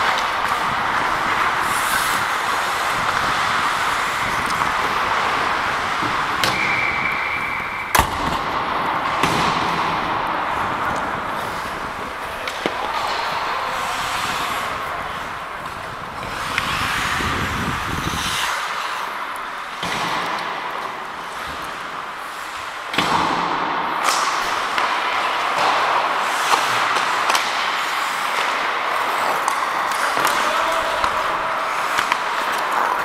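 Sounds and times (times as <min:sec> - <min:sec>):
skate blades scraping ice: 0:00.0 - 0:23.4, 0:24.0 - 0:33.0
sticks and puck clacking: 0:00.0 - 0:33.0.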